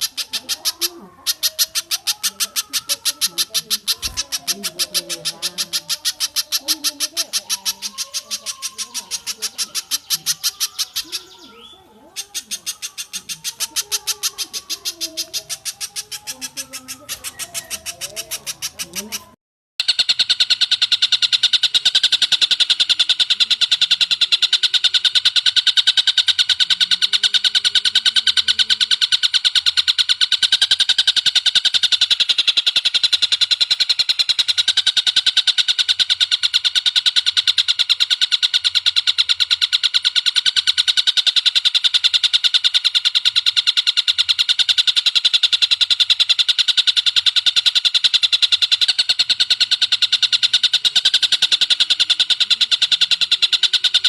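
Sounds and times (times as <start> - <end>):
bird trilling: 0.0 - 54.0.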